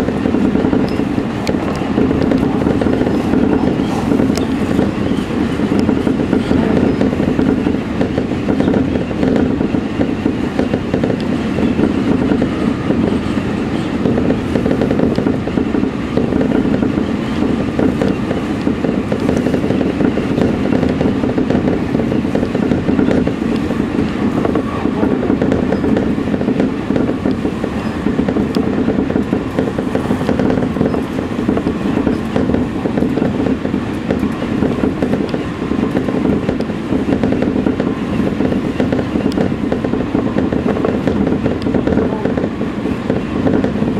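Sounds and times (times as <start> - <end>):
electric train running: 0.0 - 43.9.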